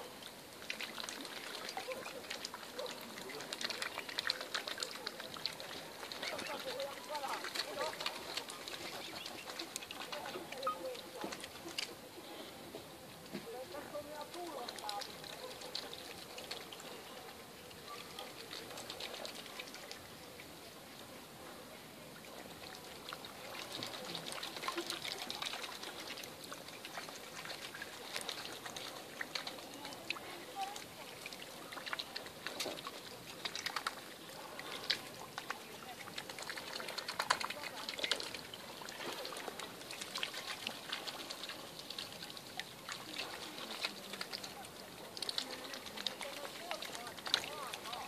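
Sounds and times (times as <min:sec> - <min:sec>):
water splashing and dripping: 0:00.0 - 0:48.0.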